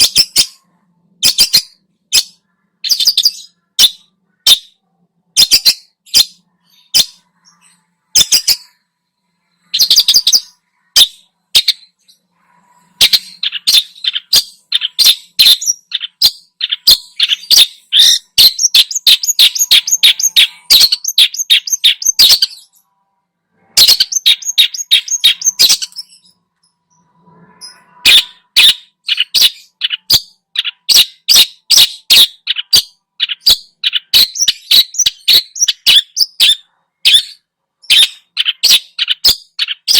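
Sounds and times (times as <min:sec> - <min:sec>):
bird singing sharp high notes: 0:00.0 - 0:39.9.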